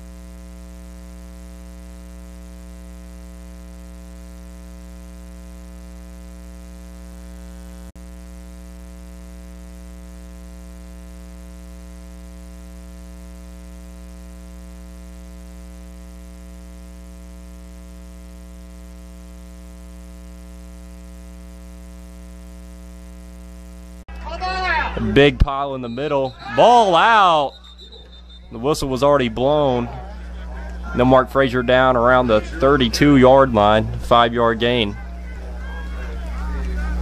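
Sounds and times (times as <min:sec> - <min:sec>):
mains hum: 0:00.0 - 0:37.0.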